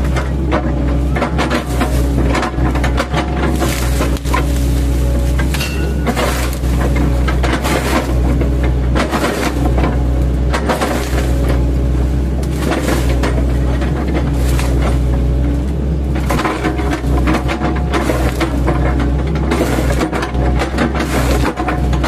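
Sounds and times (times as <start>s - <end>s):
excavator diesel engine: 0.0s - 22.0s
wood cracking and splintering: 0.0s - 22.0s.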